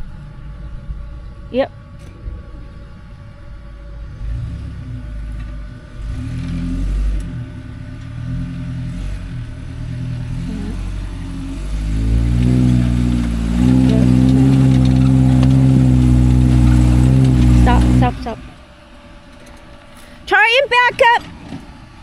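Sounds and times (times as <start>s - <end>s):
truck engine revving under load: 0.0s - 20.2s.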